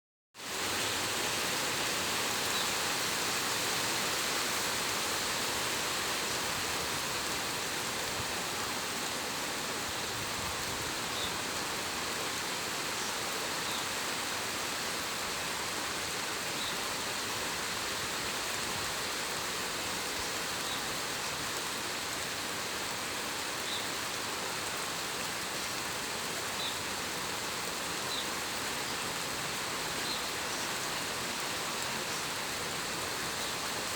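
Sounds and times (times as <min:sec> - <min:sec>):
rain hiss: 0:00.4 - 0:33.9.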